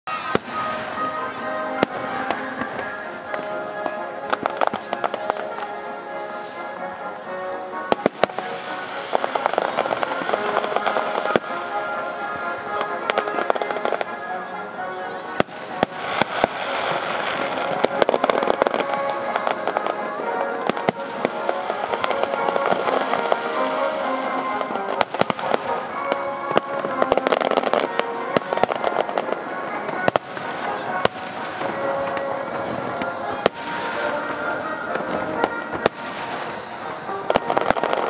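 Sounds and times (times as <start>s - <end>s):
music: 0.0s - 38.0s
fireworks bangs: 0.1s - 38.0s.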